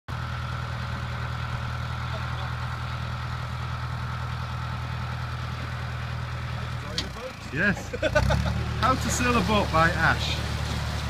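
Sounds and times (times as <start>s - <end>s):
boat engine idling: 0.1s - 11.0s.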